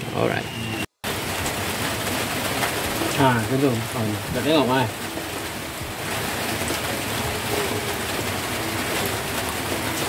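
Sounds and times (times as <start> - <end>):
light drizzle hissing: 1.0 - 10.0.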